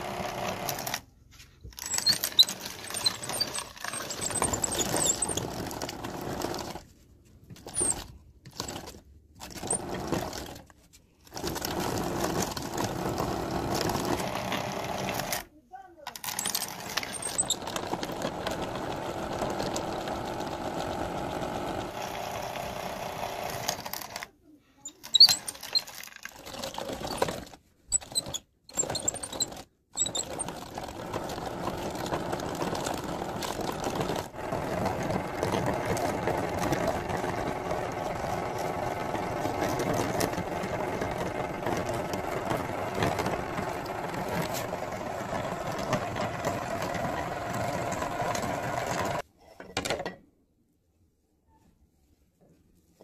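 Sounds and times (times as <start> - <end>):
meat grinder churning: 0.0 - 1.0, 1.8 - 6.8, 7.6 - 10.6, 11.3 - 15.4, 16.1 - 24.2, 25.1 - 49.2.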